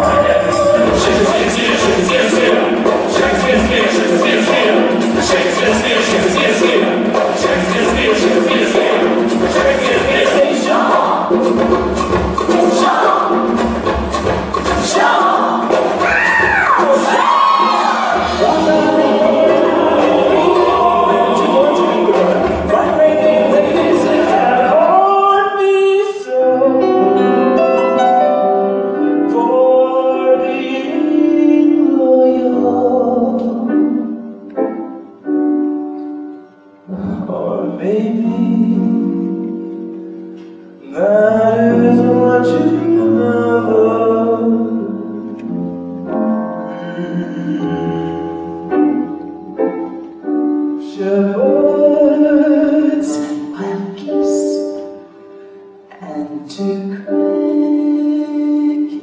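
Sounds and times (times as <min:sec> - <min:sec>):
live concert music: 0:00.0 - 0:59.0.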